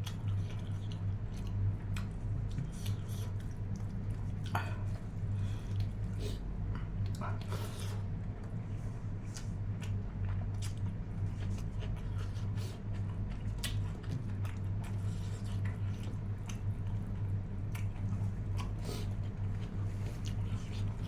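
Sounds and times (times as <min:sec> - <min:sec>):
chewing and biting meat: 0:00.0 - 0:21.0
steady low hum: 0:00.0 - 0:21.0.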